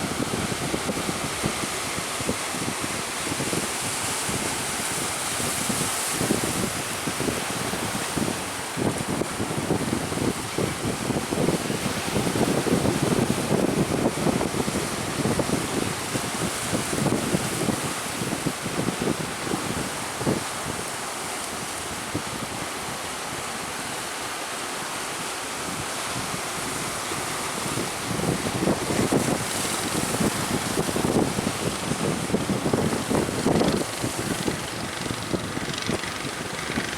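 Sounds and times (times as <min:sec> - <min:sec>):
wind buffeting microphone: 0:00.0 - 0:23.9, 0:25.6 - 0:36.9
sea waves rushing: 0:00.0 - 0:36.9.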